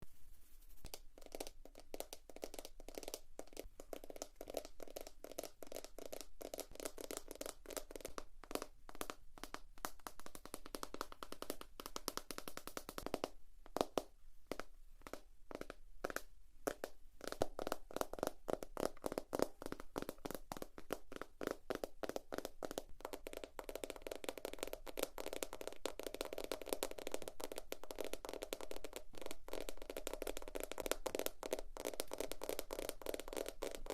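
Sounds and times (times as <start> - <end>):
fingers tapping on notebook covers: 0.8 - 33.9.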